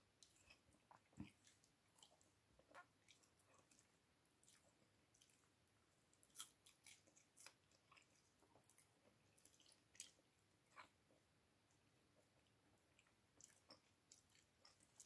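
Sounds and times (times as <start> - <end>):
person chewing wetly: 0.2 - 11.0, 12.1 - 15.0.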